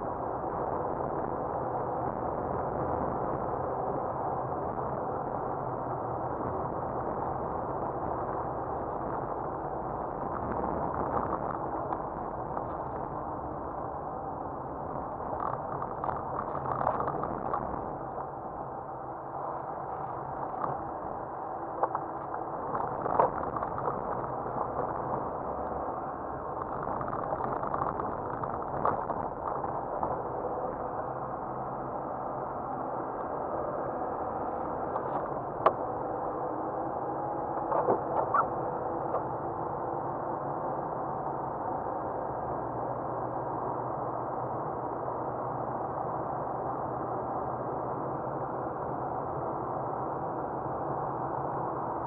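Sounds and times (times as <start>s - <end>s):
muffled car driving noise: 0.0s - 52.0s.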